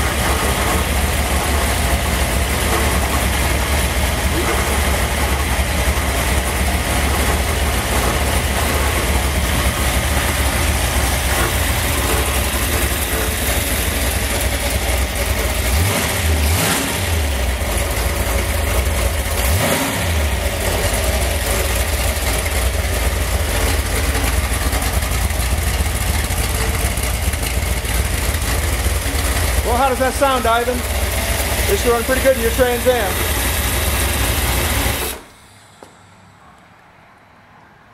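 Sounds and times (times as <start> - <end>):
engine throttle blips: 0.0 - 36.4
engine running: 0.0 - 36.8.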